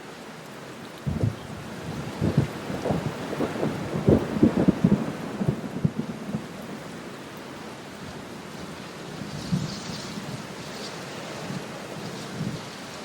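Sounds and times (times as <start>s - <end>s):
rain hissing on window glass: 0.0s - 13.0s.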